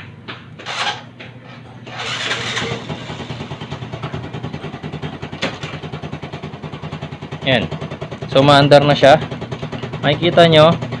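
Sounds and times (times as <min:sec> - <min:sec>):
motorcycle engine starting and idling: 0:01.8 - 0:11.0.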